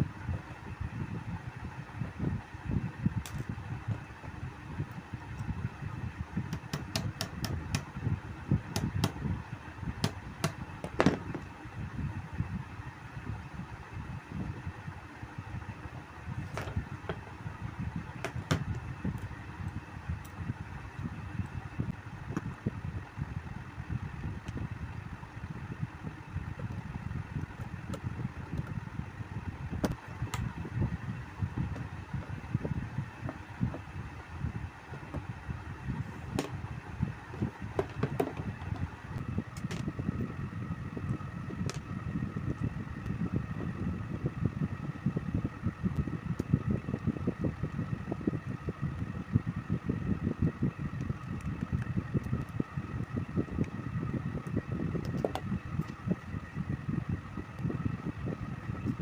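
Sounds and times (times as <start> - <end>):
fan air buffeting microphone: 0.0 - 59.0.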